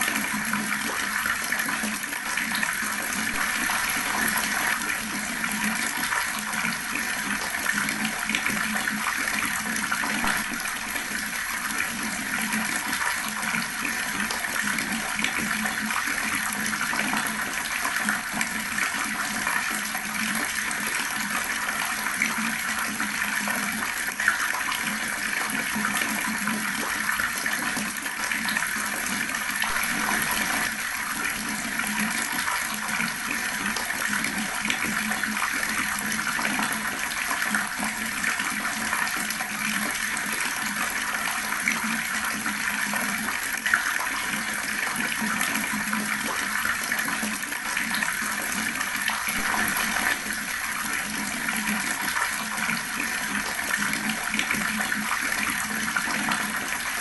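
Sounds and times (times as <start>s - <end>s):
tap water splashing into basin: 0.0s - 57.0s.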